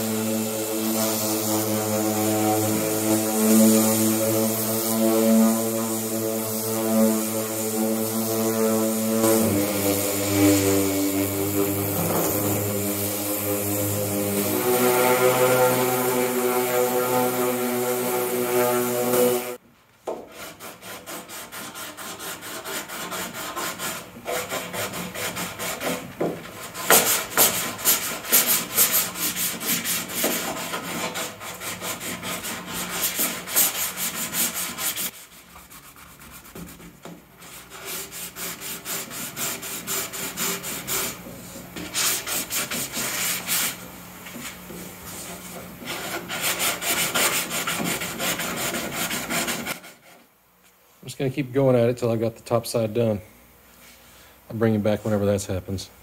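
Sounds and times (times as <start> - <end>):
sandpaper scraping fiberglass: 0.0 - 19.6, 20.3 - 50.3.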